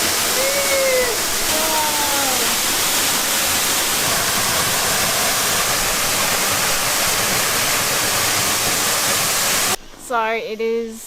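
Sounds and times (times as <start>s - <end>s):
waterfall rushing: 0.0s - 9.8s.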